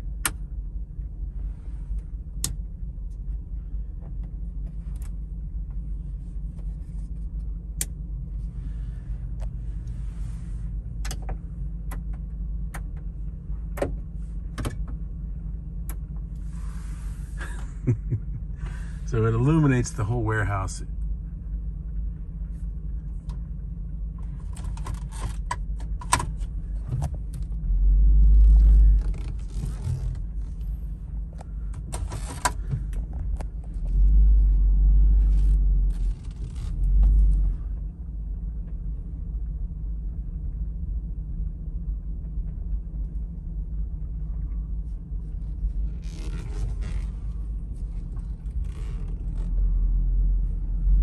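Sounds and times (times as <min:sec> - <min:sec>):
low engine rumble: 0:00.0 - 0:51.0.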